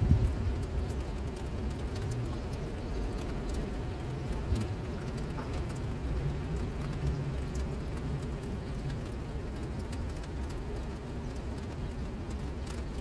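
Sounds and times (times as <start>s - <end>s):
rain splashing into standing water: 0.0s - 13.0s
steady low rumble: 0.0s - 13.0s.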